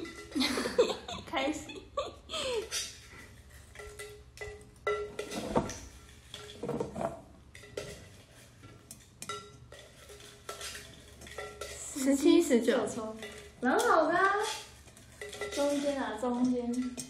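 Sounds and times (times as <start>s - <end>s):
objects clinking in metal pail: 2.5s - 17.0s.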